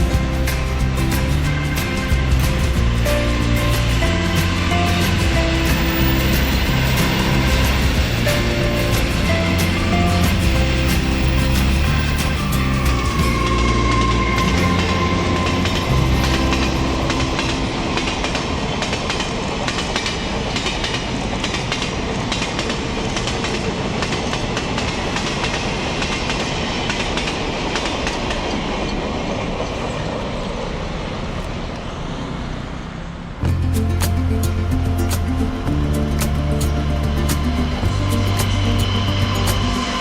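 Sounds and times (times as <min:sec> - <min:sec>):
freight train wheels clattering: 0:00.0 - 0:31.3, 0:33.4 - 0:40.0.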